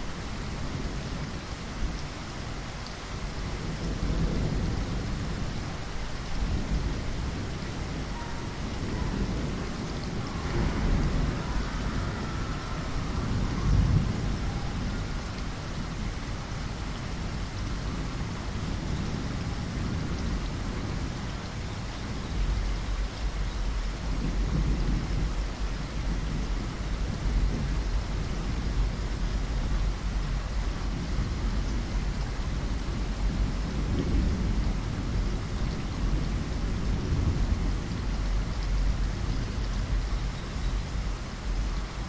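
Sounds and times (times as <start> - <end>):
low rolling thunder: 0.0 - 42.0
steady rain: 0.0 - 42.0.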